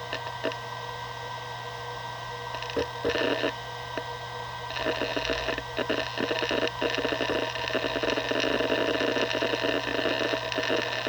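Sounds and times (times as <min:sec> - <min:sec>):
hard drive hum and whine: 0:00.0 - 0:11.0.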